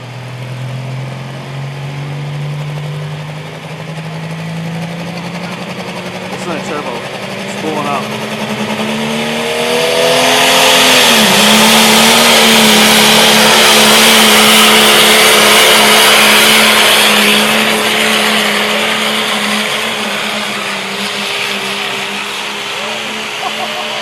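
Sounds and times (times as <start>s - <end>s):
diesel truck engine at high revs: 0.0s - 24.0s.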